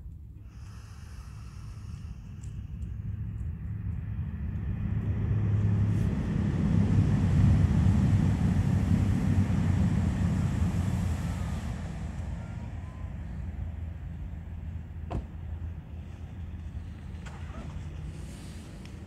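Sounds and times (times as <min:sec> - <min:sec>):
passing engine rumble: 0:00.0 - 0:19.0.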